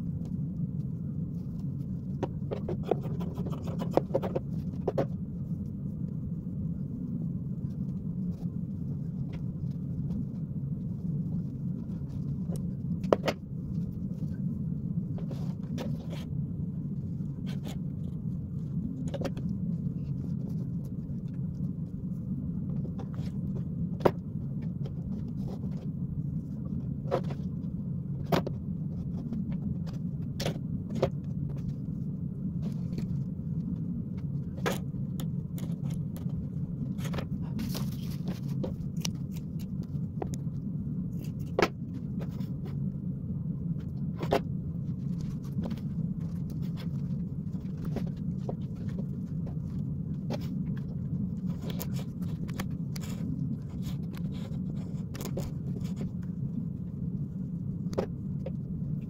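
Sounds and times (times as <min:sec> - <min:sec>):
low rumble: 0:00.0 - 0:59.0.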